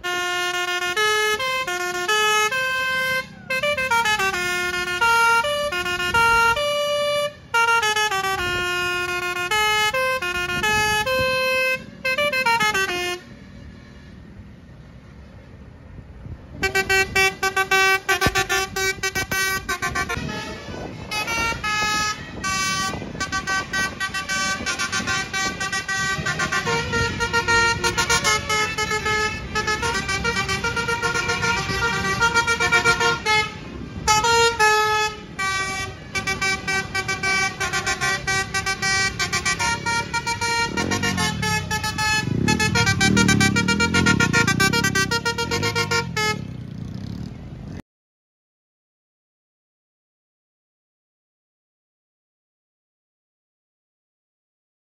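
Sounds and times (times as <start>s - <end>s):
bus horn playing a tune: 0.0s - 14.3s, 16.6s - 46.7s.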